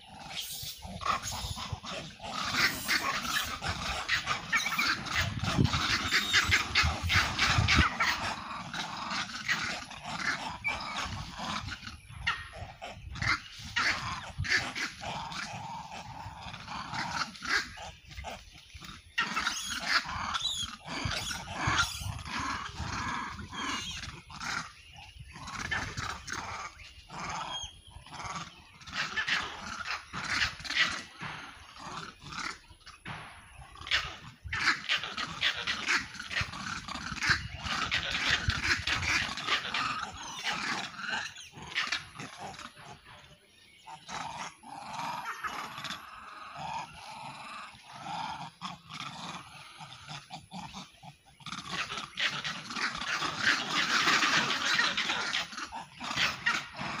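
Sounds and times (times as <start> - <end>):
monkeys screeching and chattering: 0.0 - 57.0.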